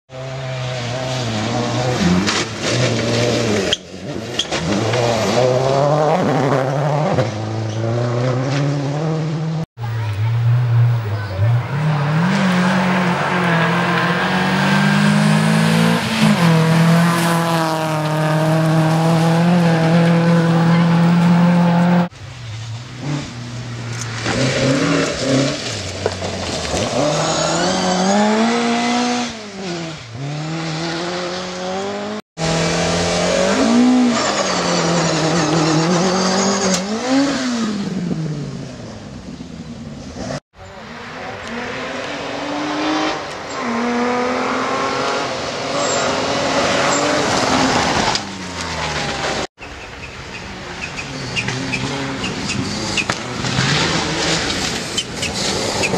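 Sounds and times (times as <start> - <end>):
rally cars revving past on gravel: 0.2 - 9.6, 11.5 - 38.5, 40.1 - 49.5, 51.2 - 55.9.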